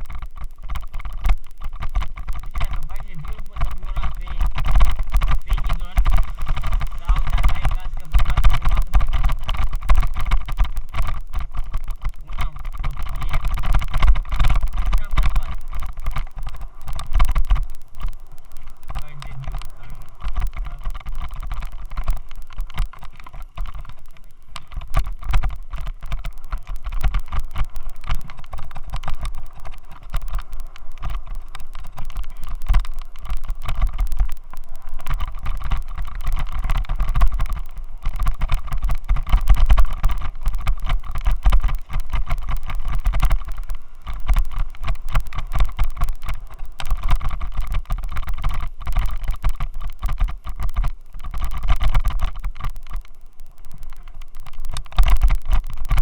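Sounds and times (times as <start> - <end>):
rattling vibration buzz: 0.0 - 56.0.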